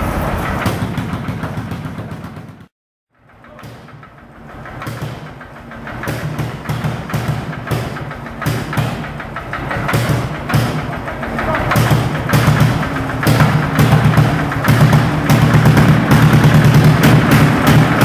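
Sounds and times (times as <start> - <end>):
tractor engine thumping: 0.0 - 18.0.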